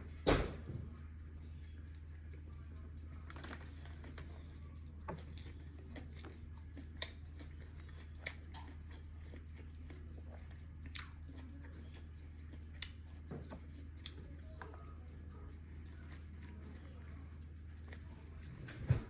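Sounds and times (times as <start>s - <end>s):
chewing: 0.8s - 19.0s.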